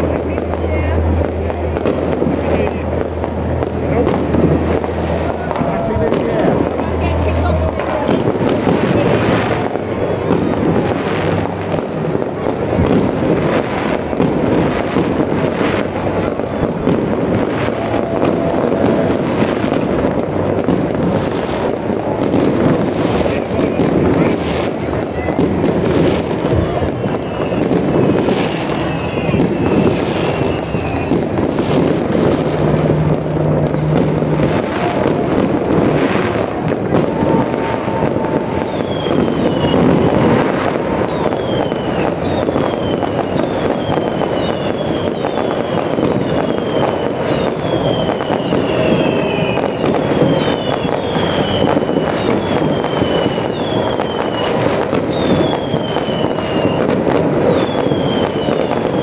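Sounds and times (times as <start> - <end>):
falling firework whistles: 0.0 - 59.0
fireworks crackling and popping: 0.0 - 59.0.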